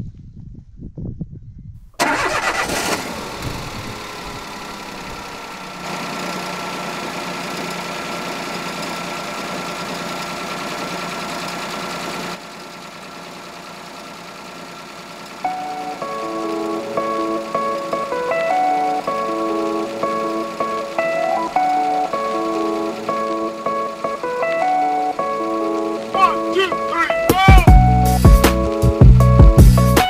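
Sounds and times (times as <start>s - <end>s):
car engine starting and idling: 2.0s - 30.0s.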